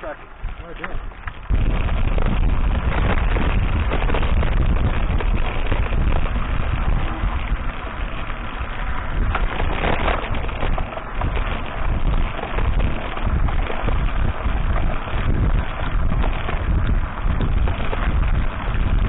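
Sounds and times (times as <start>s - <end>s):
bike rattling over bumps: 0.0s - 19.0s
wind buffeting microphone: 0.0s - 19.0s.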